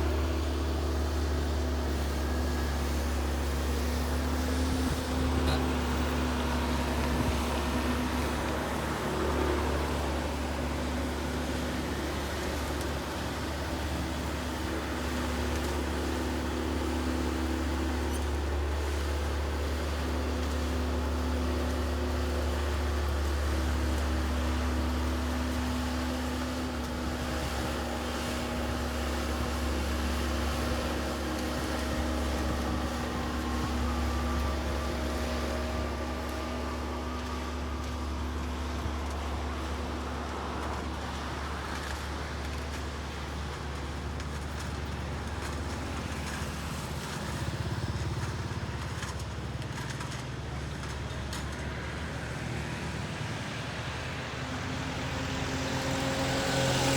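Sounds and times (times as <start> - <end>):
vehicle engine drone: 0.0 - 56.9.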